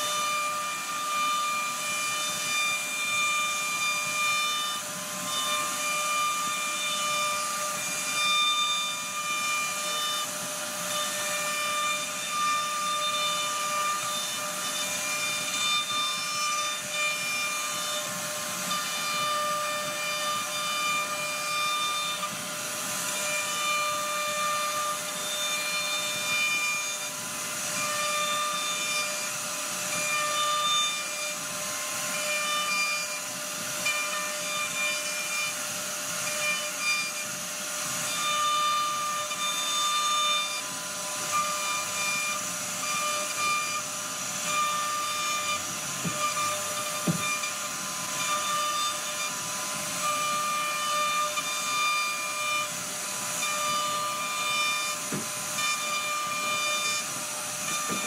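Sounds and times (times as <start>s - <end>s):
hiss of cutting wood: 0.0s - 58.0s
router spindle whining: 0.0s - 58.0s.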